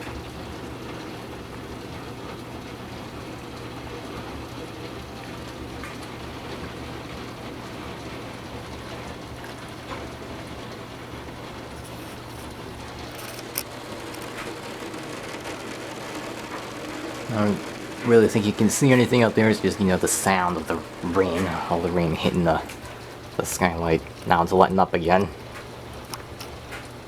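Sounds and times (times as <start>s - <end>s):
heavy rain drumming on skylight: 0.0s - 27.0s.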